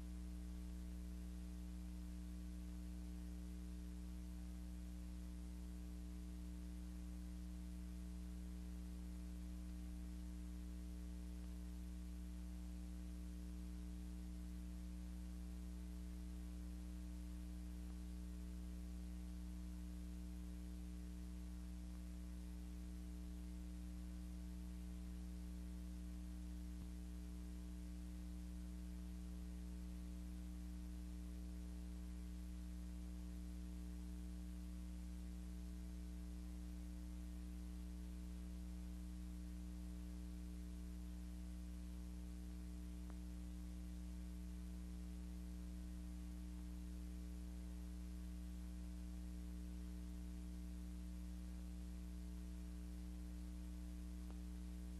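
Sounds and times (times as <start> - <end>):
electrical mains hum: 0.0 - 54.9.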